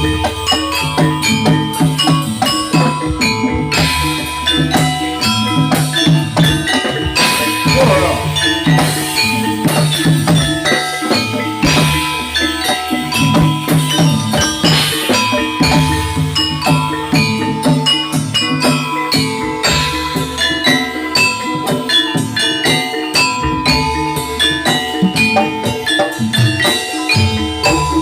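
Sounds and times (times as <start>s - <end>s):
metallophones ringing melody: 0.0s - 28.0s
rattling jingling percussion: 0.0s - 28.0s
steady drumming: 0.0s - 28.0s.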